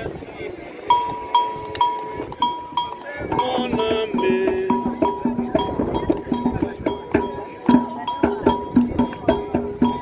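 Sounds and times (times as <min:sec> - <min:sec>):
hand drums: 0:00.9 - 0:10.0.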